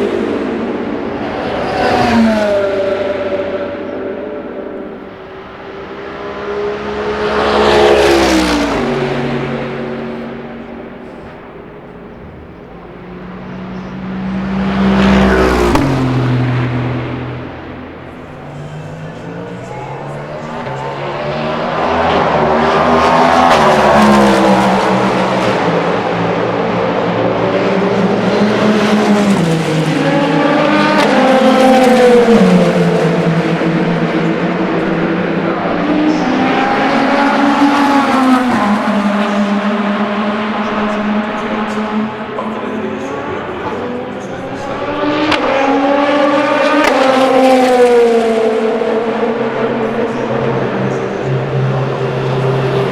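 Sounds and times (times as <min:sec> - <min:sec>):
faint engine noise of other cars: 0:00.0 - 0:52.9
racing car passing at speed: 0:00.0 - 0:52.9.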